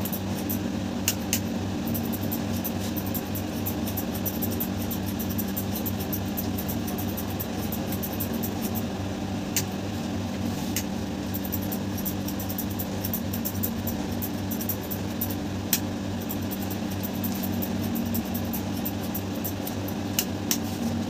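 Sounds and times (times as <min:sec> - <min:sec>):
electric hair clipper buzzing: 0:00.0 - 0:08.9, 0:10.8 - 0:20.7.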